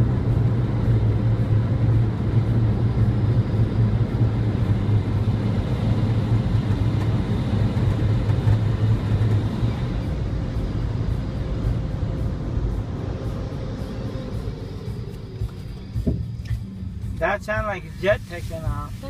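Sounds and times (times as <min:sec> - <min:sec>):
road noise: 0:00.0 - 0:19.0
vehicle engine drone: 0:00.0 - 0:19.0.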